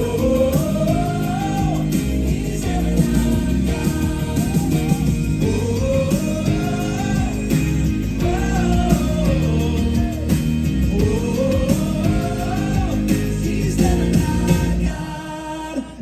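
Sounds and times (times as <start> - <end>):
band accompaniment: 0.0 - 15.1
gospel vocal group singing: 0.0 - 16.0.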